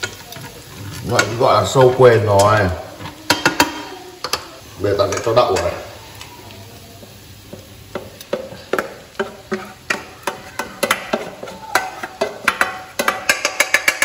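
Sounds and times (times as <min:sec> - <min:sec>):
utensil knocking and scraping in pan: 0:00.0 - 0:05.8, 0:07.0 - 0:14.0.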